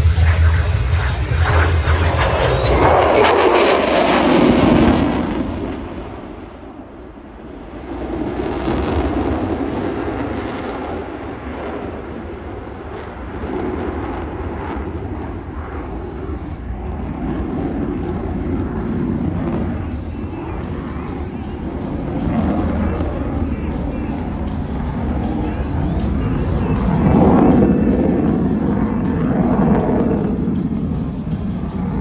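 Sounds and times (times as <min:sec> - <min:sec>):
jet engine rumble: 0:00.0 - 0:32.0.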